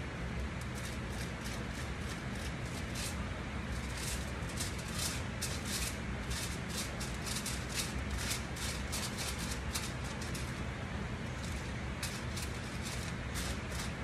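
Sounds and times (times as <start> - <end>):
steady low hum: 0.0 - 14.0
foil and hair rustling: 0.6 - 10.6, 11.3 - 14.0.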